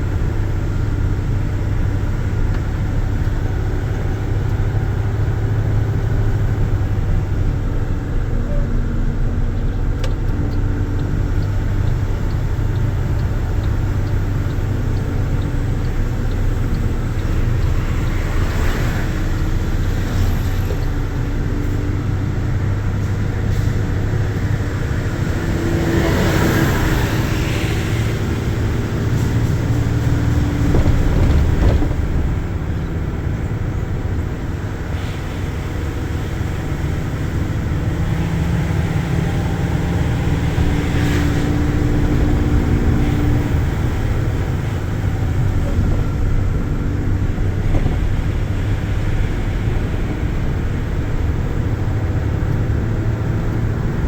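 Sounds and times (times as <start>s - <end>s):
tyres on wet road: 0.0s - 54.0s
vehicle engine drone: 0.0s - 54.0s.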